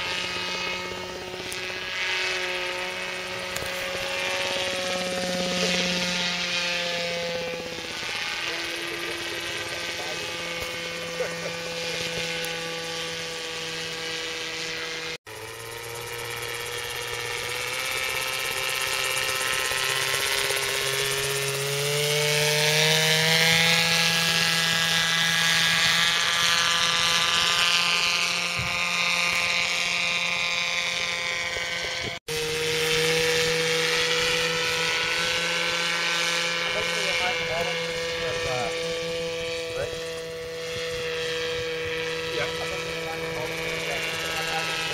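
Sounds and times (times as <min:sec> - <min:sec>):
model aircraft engine in flight: 0:00.0 - 0:44.9.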